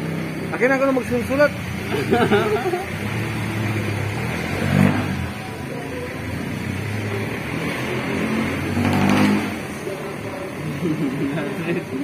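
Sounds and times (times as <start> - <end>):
indistinct voices: 1.1 - 12.0.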